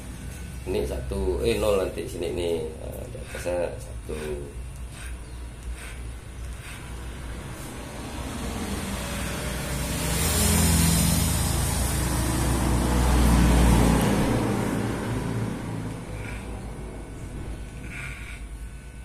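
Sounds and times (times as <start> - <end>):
motor vehicle passing: 0.0 - 19.0.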